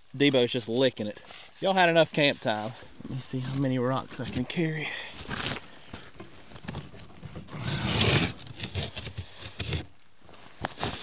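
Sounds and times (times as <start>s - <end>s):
rocks scraping and rustling: 0.0s - 11.0s.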